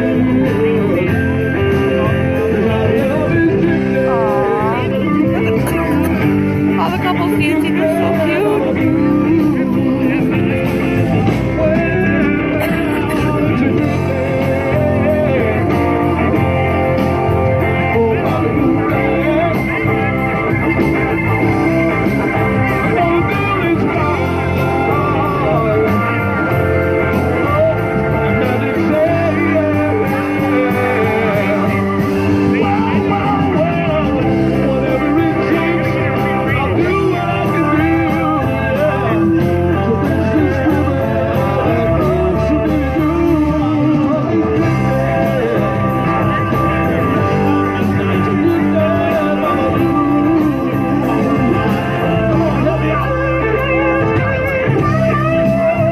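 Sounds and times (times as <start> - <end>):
electric guitar: 0.0 - 55.9
live blues band playing: 0.0 - 55.9.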